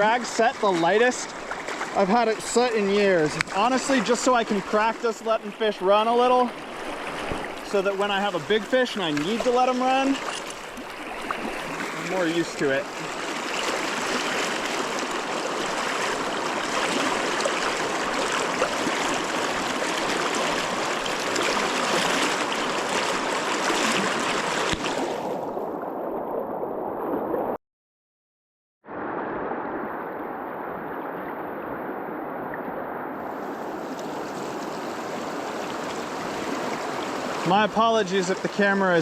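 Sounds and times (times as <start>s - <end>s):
river current rushing: 0.0s - 25.8s, 28.9s - 39.0s.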